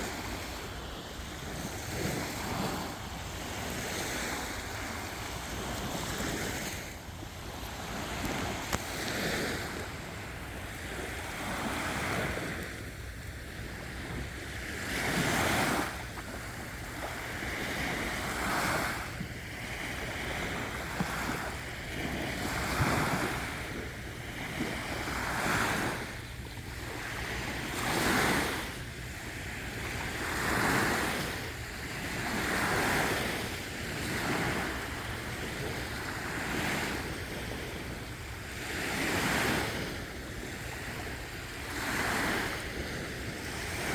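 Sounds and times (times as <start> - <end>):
sea waves breaking on beach: 0.0 - 43.9.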